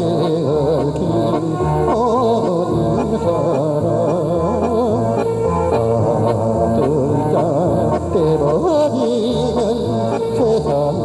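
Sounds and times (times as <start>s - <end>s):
low bass line: 0.0s - 11.0s.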